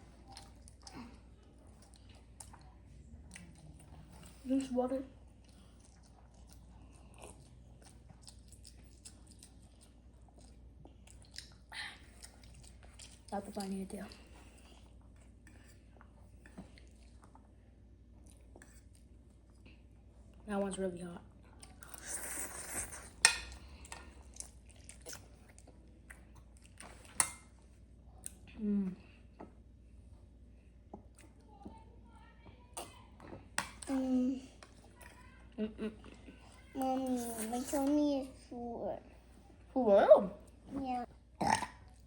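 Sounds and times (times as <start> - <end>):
faint chewing: 0.0 - 20.4, 21.2 - 31.9, 32.7 - 38.5.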